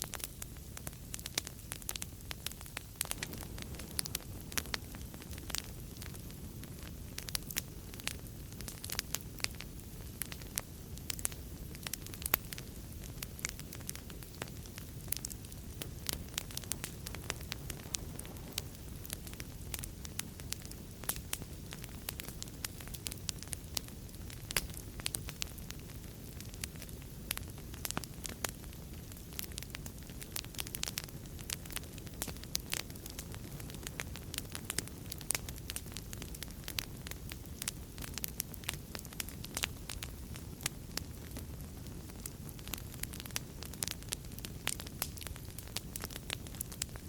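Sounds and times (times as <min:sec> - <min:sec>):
low rumble of flames: 0:00.0 - 0:47.0
wood fire crackling: 0:00.0 - 0:47.0.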